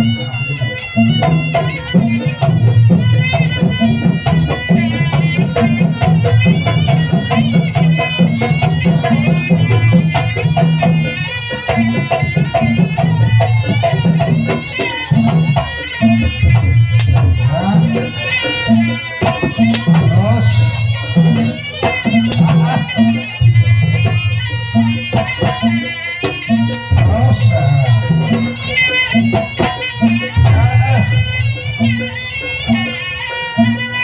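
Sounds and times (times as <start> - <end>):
hand drums beating: 0.0 - 34.0
ornamented lead melody: 0.0 - 34.0.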